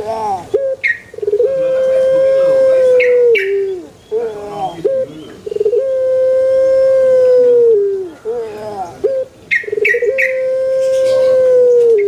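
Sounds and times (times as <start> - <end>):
dove cooing: 0.0 - 12.0
dove rolling trill: 0.0 - 12.0.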